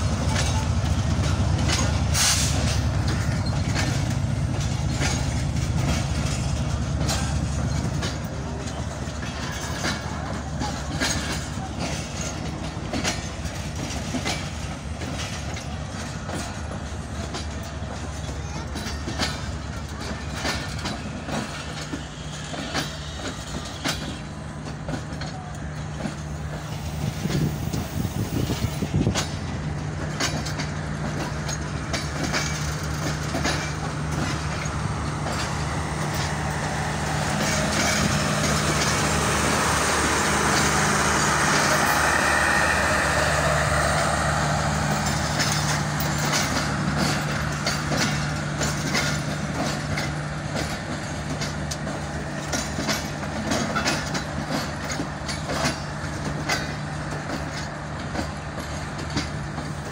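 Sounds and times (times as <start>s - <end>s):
train rushing rolling noise: 0.0s - 59.9s
train wheels clicking over joints: 0.0s - 59.9s.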